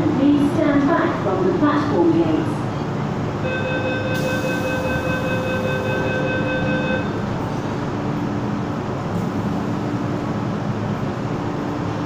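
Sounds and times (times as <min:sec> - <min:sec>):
train wheels and motors rumbling: 0:00.0 - 0:12.0.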